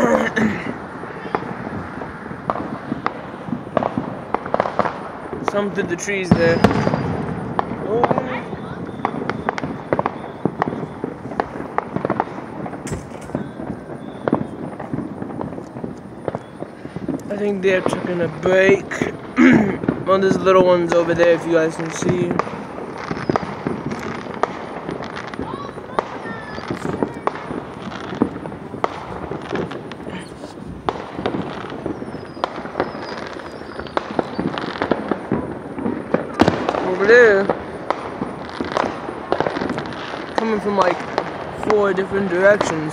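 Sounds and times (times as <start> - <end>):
firecracker pops and bangs: 0.0 - 42.9
fireworks rumble: 0.0 - 42.9.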